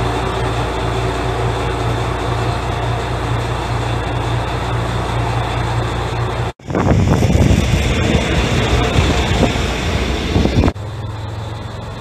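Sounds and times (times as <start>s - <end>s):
train engine idling: 0.0s - 12.0s.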